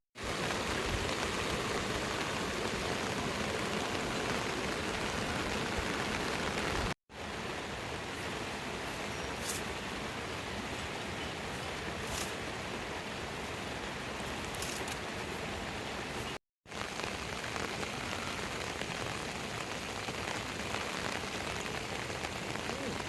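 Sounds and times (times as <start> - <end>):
rain falling: 0.2 - 23.0.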